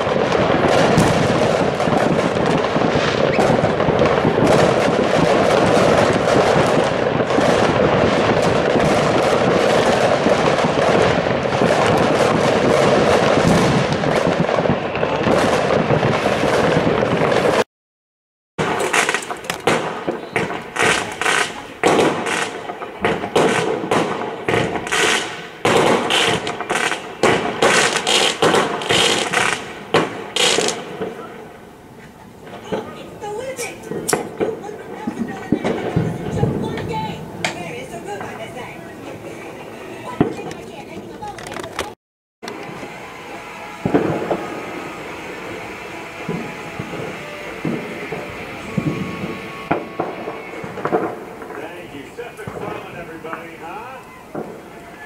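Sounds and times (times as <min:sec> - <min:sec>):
fireworks bangs and pops: 0:00.0 - 0:17.7, 0:18.6 - 0:55.0
fireworks crackling barrage: 0:00.0 - 0:17.7, 0:18.6 - 0:55.0.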